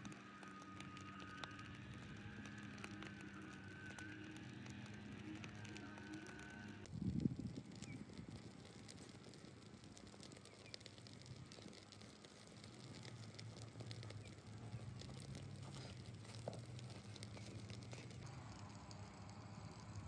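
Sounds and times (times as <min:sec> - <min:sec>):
fire crackling: 0:00.0 - 0:20.0
low steady hum: 0:00.0 - 0:20.0.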